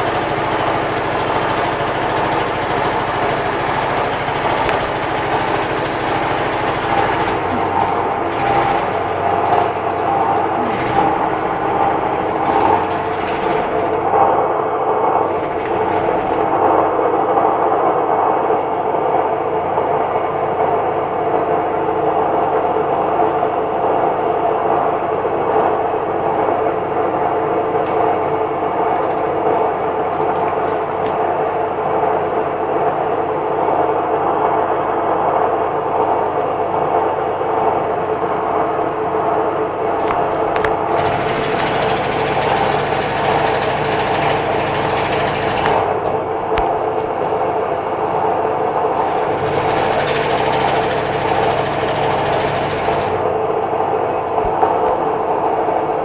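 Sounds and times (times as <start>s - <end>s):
washer-dryer running loudly: 0.0s - 56.0s.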